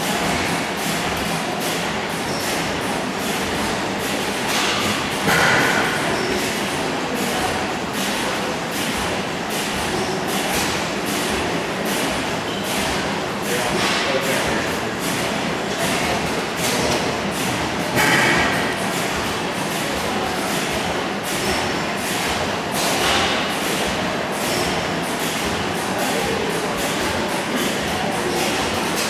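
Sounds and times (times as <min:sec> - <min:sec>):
stationary gas engines running: 0:00.0 - 0:29.0.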